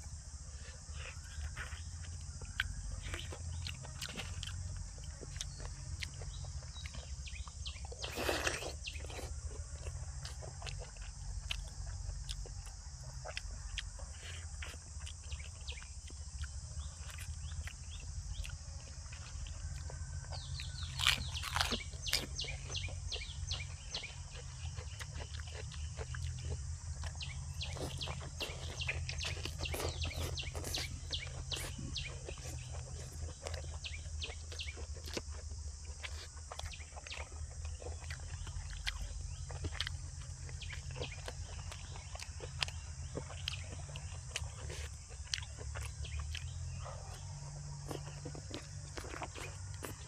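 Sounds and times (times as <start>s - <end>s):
person chewing: 0.2s - 50.0s.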